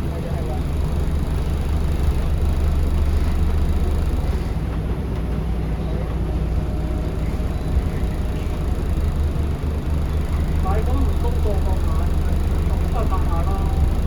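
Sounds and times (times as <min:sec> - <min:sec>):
bus engine rumble: 0:00.0 - 0:14.0
road and tyre noise: 0:00.0 - 0:14.0.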